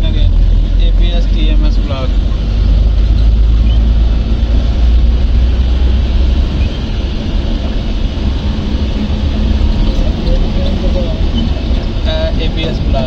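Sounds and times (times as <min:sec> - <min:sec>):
road and motor noise: 0:00.0 - 0:13.0
wind buffeting microphone: 0:02.0 - 0:13.0.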